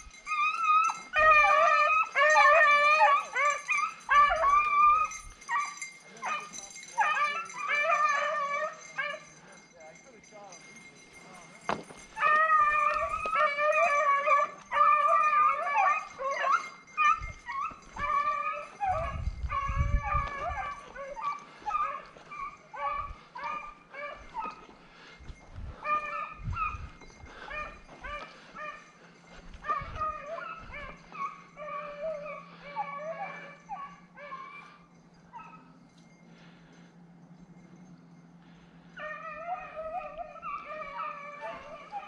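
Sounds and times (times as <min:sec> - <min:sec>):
hunting dogs baying: 0:00.0 - 0:09.8, 0:10.6 - 0:42.0.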